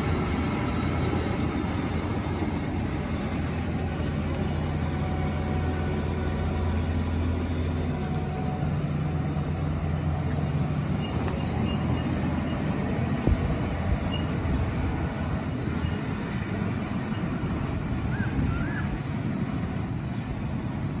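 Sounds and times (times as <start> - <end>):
tractor diesel engine: 0.0 - 21.0.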